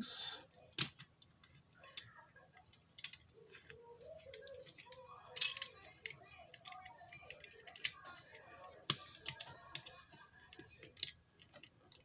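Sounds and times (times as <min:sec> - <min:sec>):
small metal parts clinking: 0:00.5 - 0:12.0.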